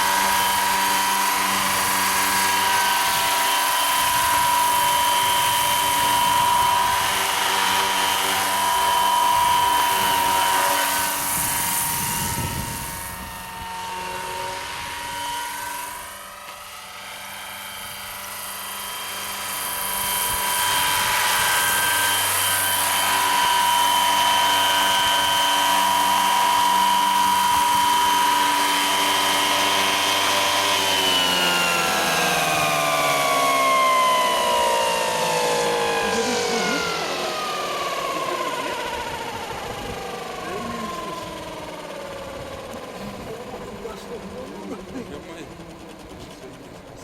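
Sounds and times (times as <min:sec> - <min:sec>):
helicopter rotor: 0:00.0 - 0:47.0
rc helicopter motor whine: 0:00.0 - 0:47.0.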